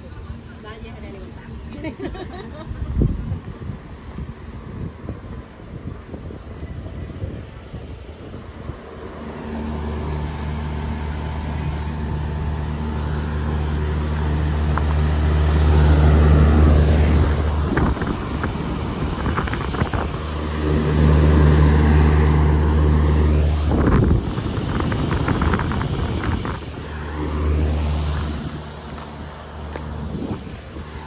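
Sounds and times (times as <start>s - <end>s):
air conditioner hum and fan: 0.0s - 31.0s.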